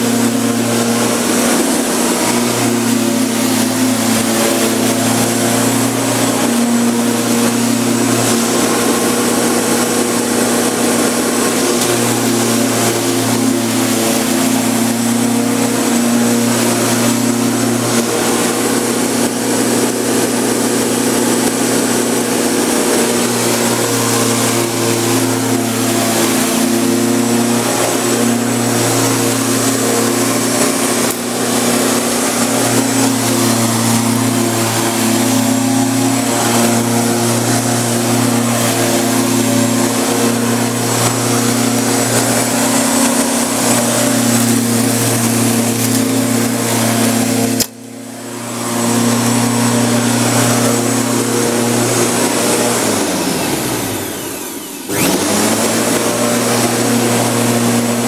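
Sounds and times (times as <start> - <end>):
electric lawn mower running: 0.0 - 58.0.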